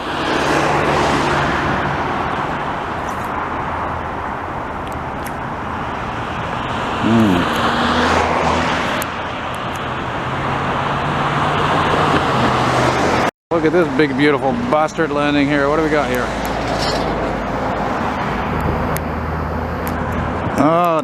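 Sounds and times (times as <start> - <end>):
highway traffic roar: 0.0 - 21.0.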